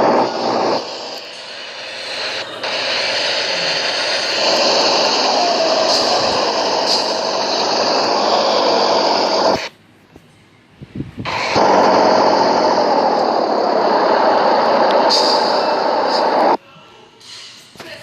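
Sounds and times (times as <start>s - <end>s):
engine running loud: 0.0s - 9.7s, 11.3s - 16.6s.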